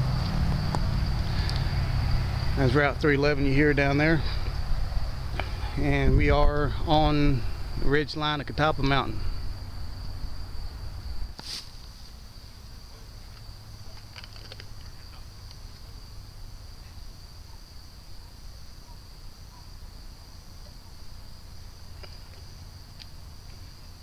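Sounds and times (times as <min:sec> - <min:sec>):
distant road traffic rumble: 0:00.0 - 0:24.0
high-pitched insect chorus: 0:00.0 - 0:24.0.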